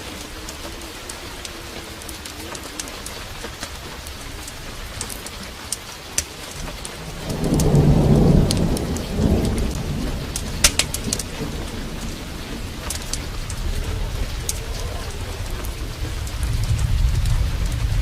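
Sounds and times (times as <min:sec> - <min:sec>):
heavy rain: 0:00.0 - 0:18.0
sharp crackles and ticks: 0:00.0 - 0:18.0
thunder rumbling: 0:00.0 - 0:18.0.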